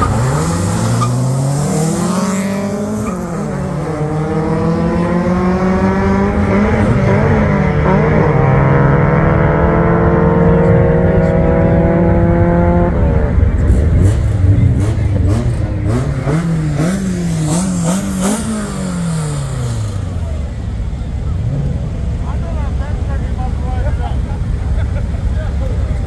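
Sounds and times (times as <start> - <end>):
engine revving: 0.0 - 22.2
car engine at full throttle: 0.0 - 26.0.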